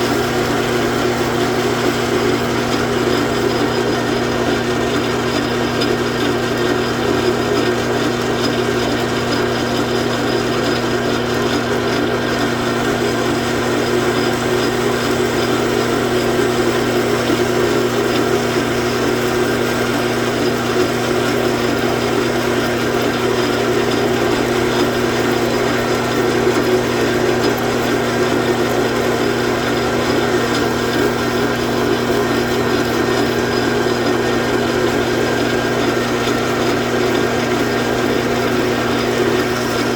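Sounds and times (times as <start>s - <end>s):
metal lathe humming: 0.0s - 39.9s.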